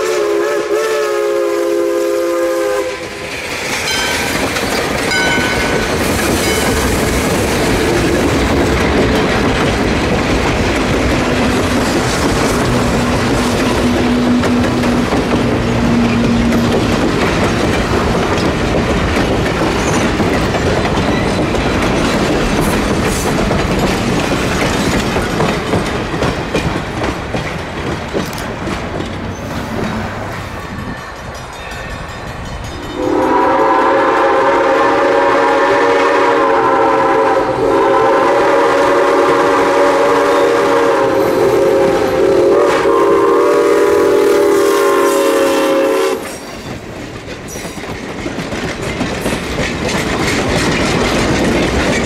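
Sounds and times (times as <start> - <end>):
train wheels clattering over rails: 1.2 - 52.0.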